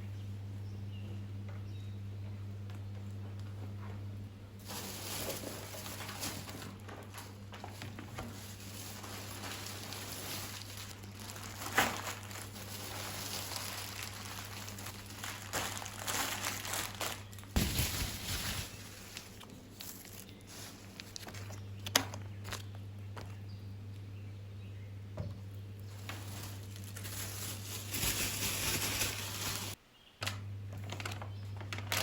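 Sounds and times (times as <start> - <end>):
crinkling and rustling: 2.6 - 23.4, 25.2 - 32.0.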